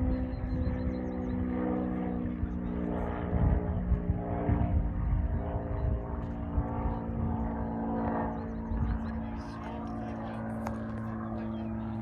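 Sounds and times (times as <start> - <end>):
propeller airplane engine droning: 0.0 - 12.0
wind rumbling on microphone: 0.0 - 12.0.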